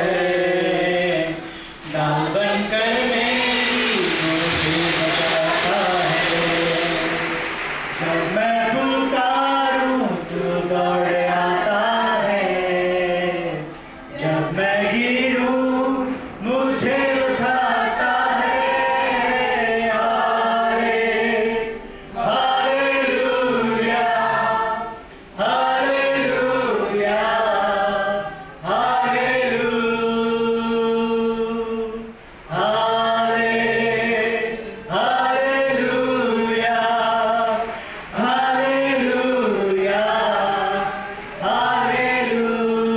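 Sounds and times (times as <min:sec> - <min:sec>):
congregation singing: 0:00.0 - 0:42.9
man singing into microphone: 0:00.0 - 0:42.9.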